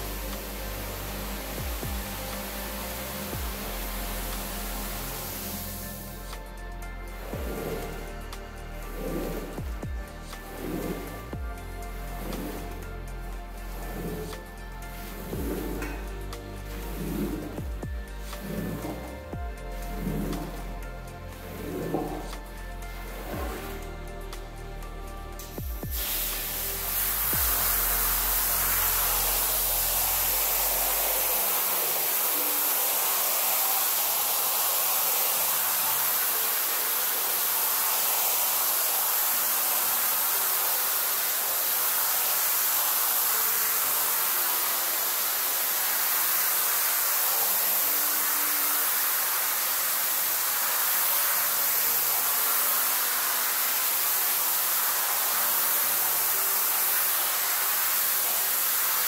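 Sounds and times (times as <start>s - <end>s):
pressure washer spraying water: 0.0s - 59.0s.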